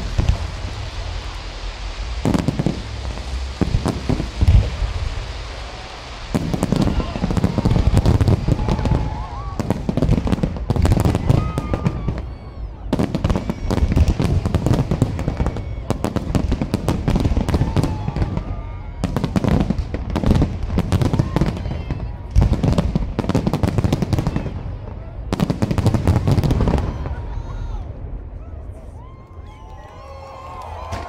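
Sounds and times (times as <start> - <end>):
fireworks bangs and crackle: 0.0 - 31.0.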